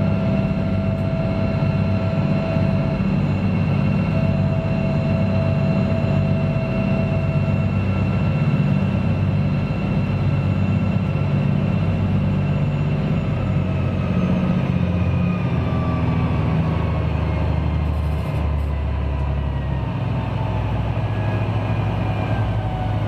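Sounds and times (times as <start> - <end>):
boat engines droning: 0.0 - 23.0
thin engine whine: 0.0 - 23.0.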